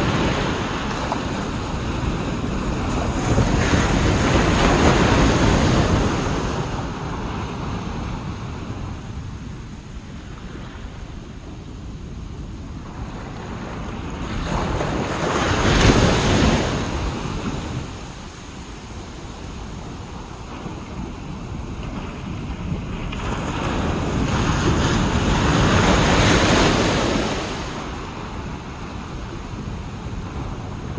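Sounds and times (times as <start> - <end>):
waves breaking on beach: 0.0 - 30.9
wind rumbling on microphone: 0.0 - 30.9.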